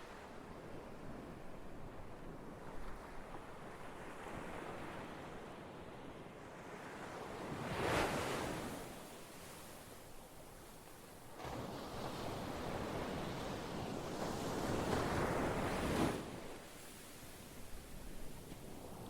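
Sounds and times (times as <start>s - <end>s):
ocean waves washing on shore: 0.0s - 19.0s.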